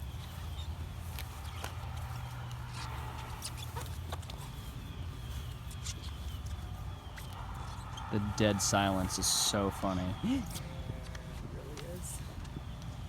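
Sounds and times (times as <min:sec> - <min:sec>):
faint high chirping: 0:00.0 - 0:11.0.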